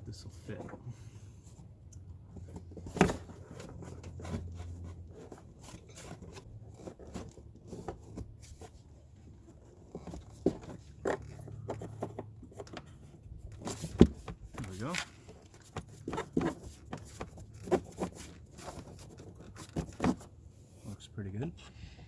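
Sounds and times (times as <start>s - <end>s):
scraping and rustling: 0.1s - 21.0s.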